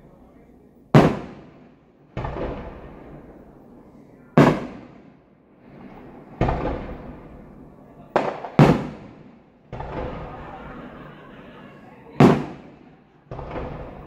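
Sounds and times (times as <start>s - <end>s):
fireworks bangs with echo: 0.0s - 14.0s.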